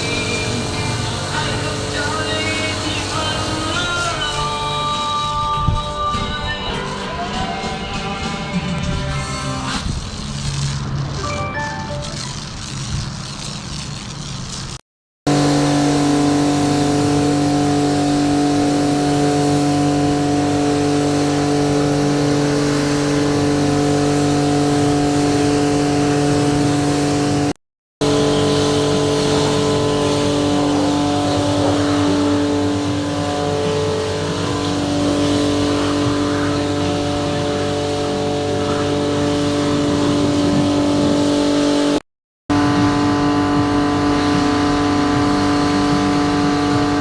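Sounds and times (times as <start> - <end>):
car wash machine humming: 0.0 - 47.0.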